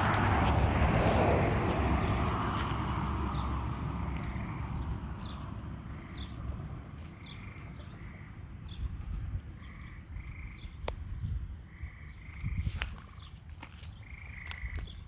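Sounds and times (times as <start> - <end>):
low rumble: 0.0 - 12.5.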